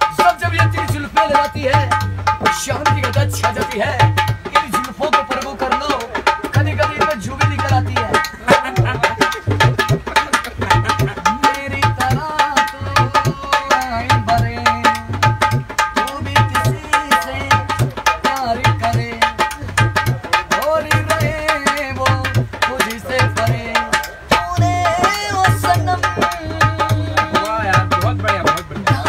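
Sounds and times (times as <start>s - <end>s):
hand drum playing: 0.0s - 29.0s
man singing: 0.0s - 29.0s.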